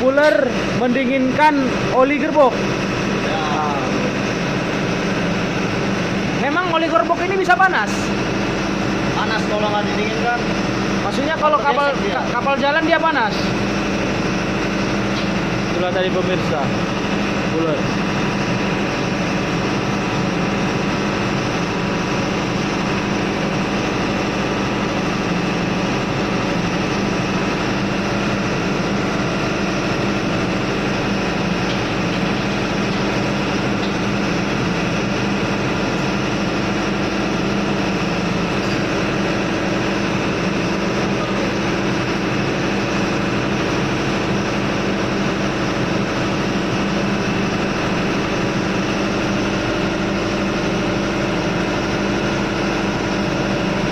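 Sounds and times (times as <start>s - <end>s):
engine-room machinery droning: 0.0s - 53.9s.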